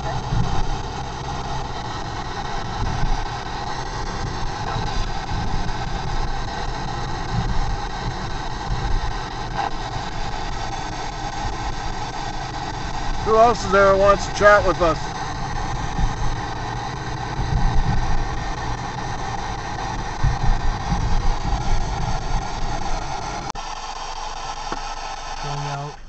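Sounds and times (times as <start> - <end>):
car road and engine noise: 0.0 - 26.0
radio static hiss sweeping: 0.0 - 26.0.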